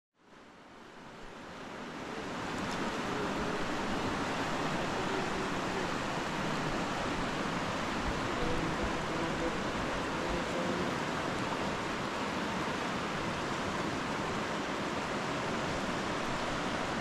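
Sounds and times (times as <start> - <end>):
rushing river water: 0.2 - 17.0.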